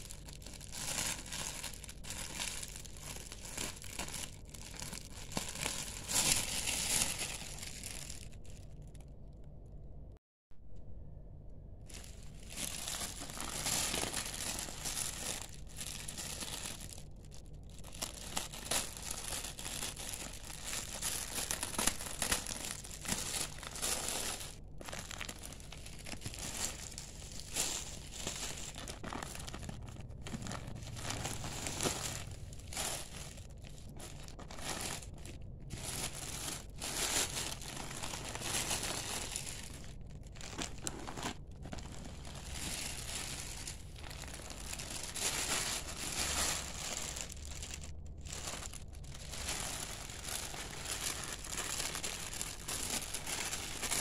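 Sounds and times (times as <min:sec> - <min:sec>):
plastic packaging crinkling: 0:00.0 - 0:09.3, 0:11.9 - 0:54.0.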